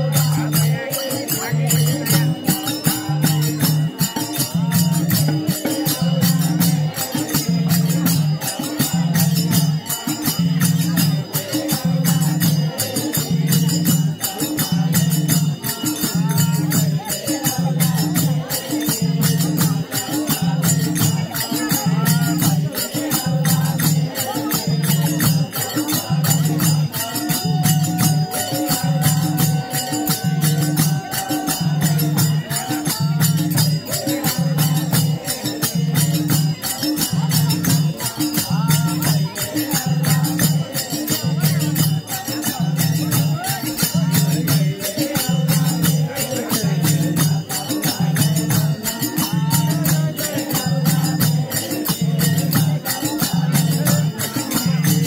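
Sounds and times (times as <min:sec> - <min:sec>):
frame drums and barrel drum: 0:00.0 - 0:55.0.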